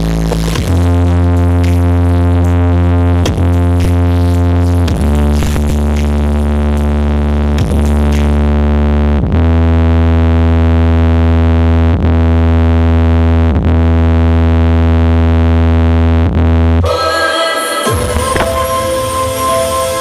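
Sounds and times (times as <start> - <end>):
deep synthesizer bass tone: 0.0 - 20.0.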